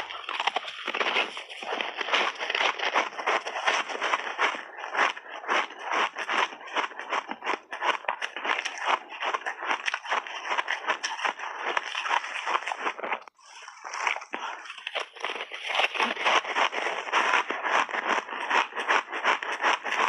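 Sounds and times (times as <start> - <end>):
frozen fruit crunching: 0.0 - 20.0.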